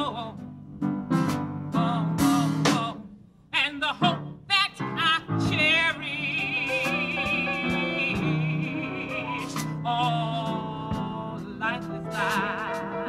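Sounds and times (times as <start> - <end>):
woman singing: 0.0 - 0.4, 1.8 - 13.0
piano accompaniment: 0.0 - 3.0, 4.0 - 13.0.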